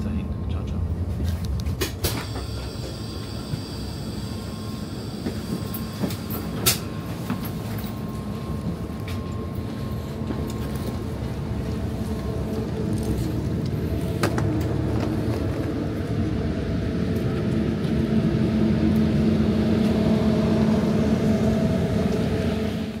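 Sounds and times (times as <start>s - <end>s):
electric train humming: 0.0s - 23.0s.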